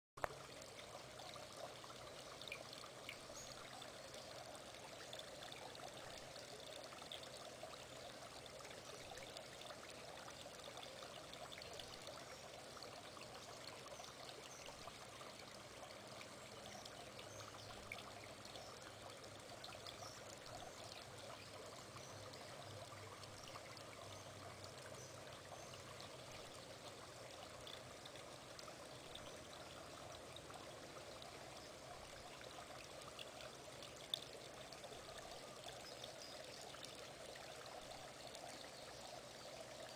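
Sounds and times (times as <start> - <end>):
water trickling in fish tank: 0.2 - 39.9.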